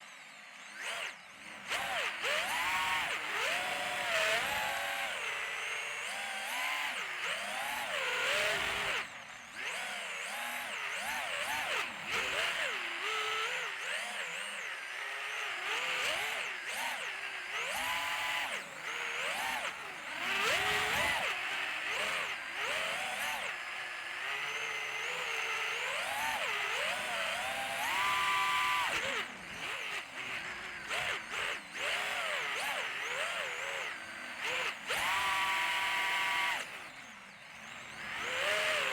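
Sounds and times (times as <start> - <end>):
electric motors whining: 0.0 - 38.9.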